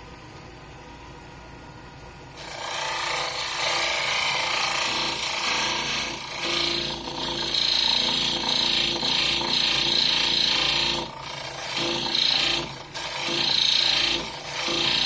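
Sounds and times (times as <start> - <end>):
tool cutting spinning wood: 2.4 - 15.0
wood lathe humming: 2.4 - 15.0.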